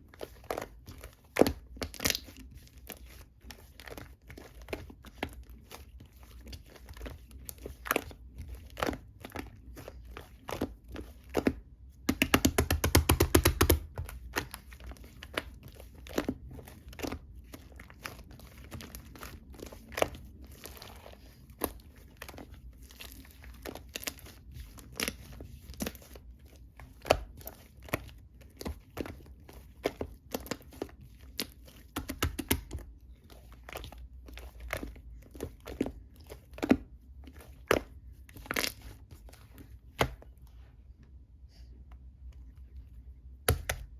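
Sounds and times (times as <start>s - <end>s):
slime squishing with sticky clicks: 0.0s - 40.4s, 43.3s - 43.9s.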